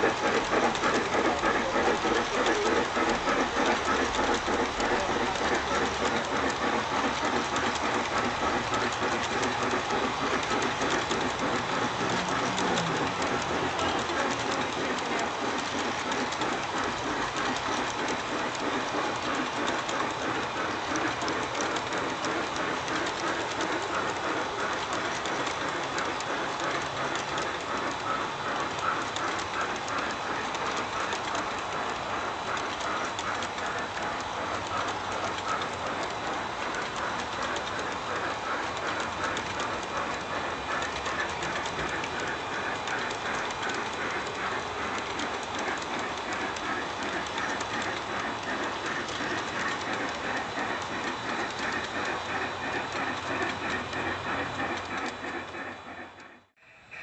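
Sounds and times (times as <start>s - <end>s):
model train wheels clattering: 0.0s - 57.0s.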